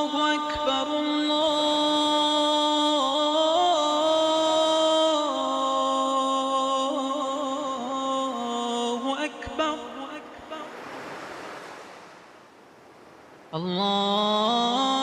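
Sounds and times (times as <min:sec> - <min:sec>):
person chanting: 0:00.0 - 0:10.8, 0:13.6 - 0:15.0.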